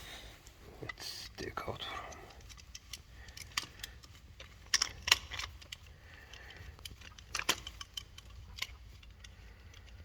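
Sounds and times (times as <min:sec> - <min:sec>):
small metal parts clinking: 0:00.9 - 0:10.0.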